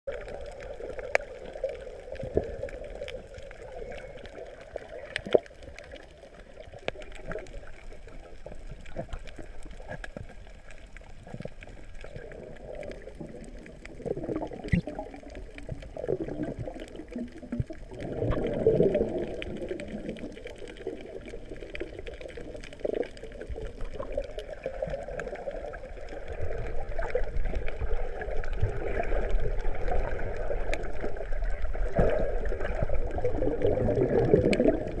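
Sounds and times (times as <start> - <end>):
underwater gurgling and sloshing: 0.1 - 35.0.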